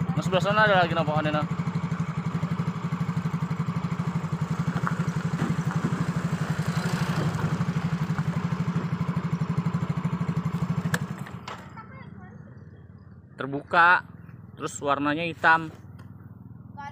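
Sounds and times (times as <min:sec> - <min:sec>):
small engine idling: 0:00.0 - 0:14.8.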